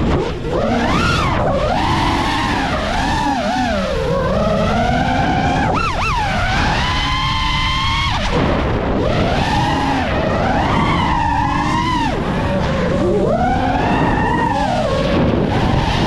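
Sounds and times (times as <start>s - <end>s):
drone motors whining: 0.0s - 16.0s
rushing noise: 0.0s - 16.0s.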